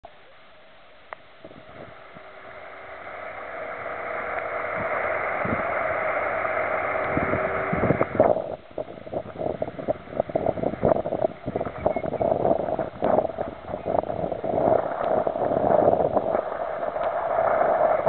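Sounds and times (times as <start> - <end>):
wind blowing across microphone: 1.2 - 18.0.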